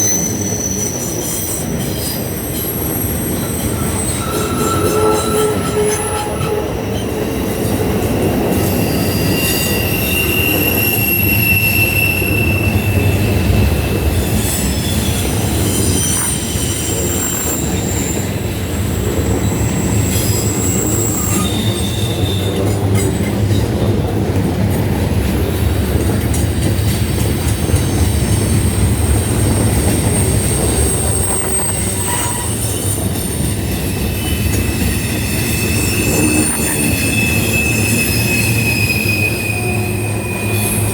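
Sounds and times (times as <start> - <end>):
train wheel squeal: 0.0 - 25.0, 25.9 - 40.9
train cars rumbling: 0.0 - 40.9.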